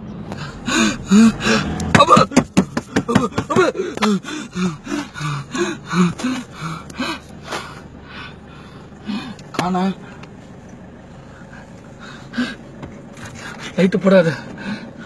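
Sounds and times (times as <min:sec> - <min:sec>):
voices calling out: 0:00.0 - 0:15.0.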